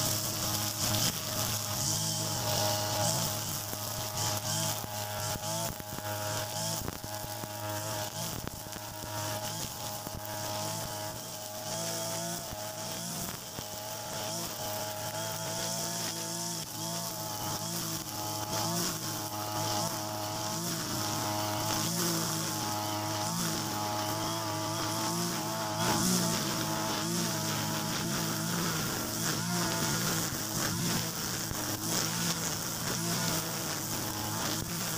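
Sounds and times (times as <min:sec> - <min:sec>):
brush cutter engine running: 0:00.0 - 0:34.9
trimmer line cutting grass: 0:00.0 - 0:34.9.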